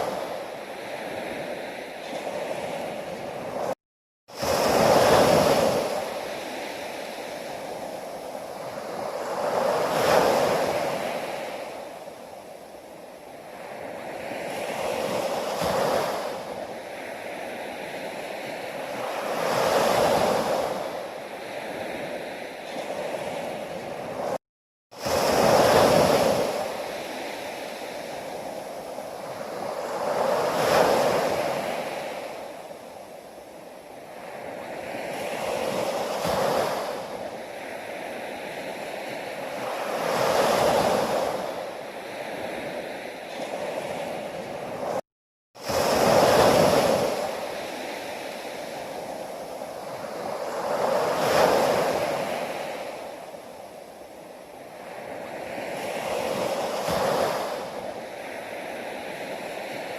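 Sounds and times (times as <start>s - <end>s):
ocean waves breaking on shore: 0.0s - 45.0s, 45.6s - 59.9s.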